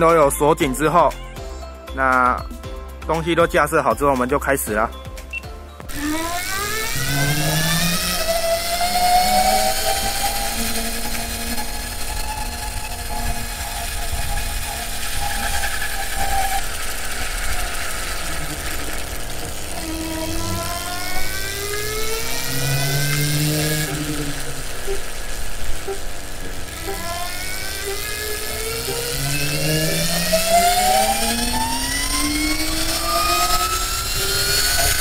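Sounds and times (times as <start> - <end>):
electric scooter motor whining: 5.9 - 35.0
road and tyre noise: 5.9 - 35.0.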